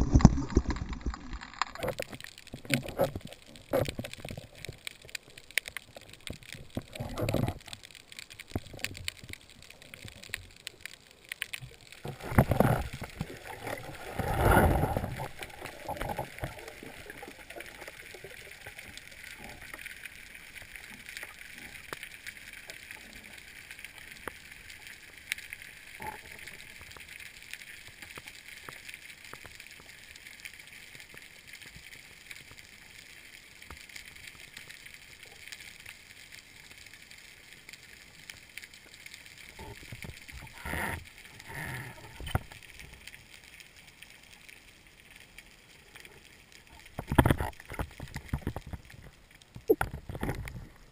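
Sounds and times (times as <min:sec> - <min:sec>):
faint underwater clicks: 0:00.0 - 0:50.9.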